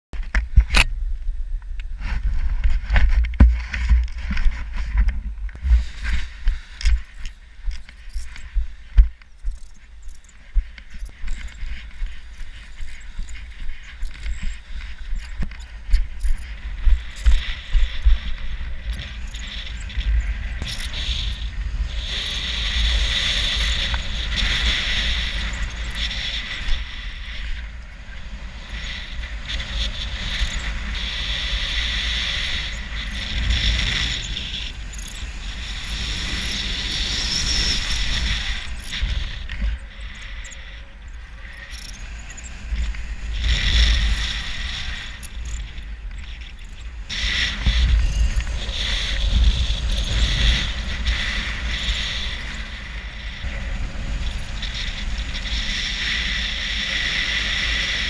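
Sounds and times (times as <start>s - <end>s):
wind buffeting microphone: 0.1s - 58.0s.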